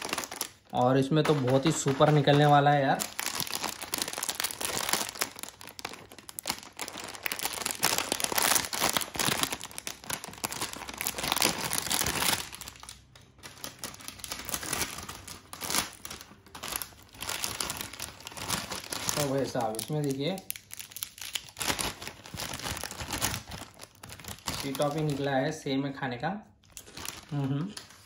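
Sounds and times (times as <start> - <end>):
plastic snack packet crinkling: 0.0 - 25.5, 26.6 - 28.0.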